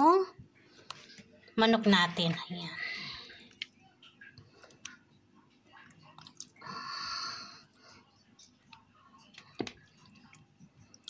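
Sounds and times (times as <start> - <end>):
wet squelching and dripping batter: 0.6 - 6.7, 7.5 - 11.0.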